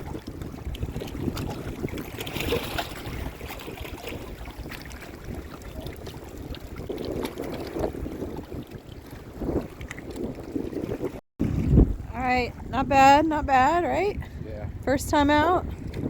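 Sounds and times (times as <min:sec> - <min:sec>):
gusty wind buffeting microphone: 0:00.0 - 0:16.0
wind-driven waves: 0:00.0 - 0:16.0.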